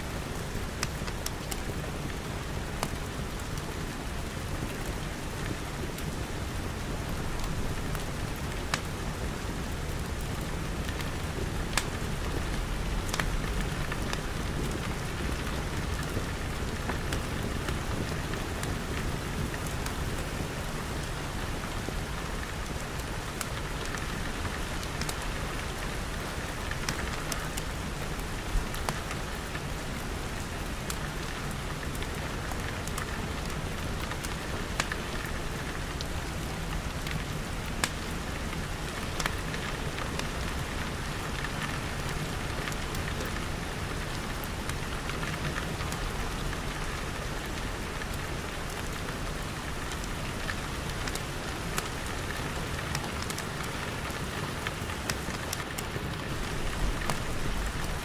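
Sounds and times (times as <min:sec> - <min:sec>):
rain pattering on glass: 0:00.2 - 0:58.0.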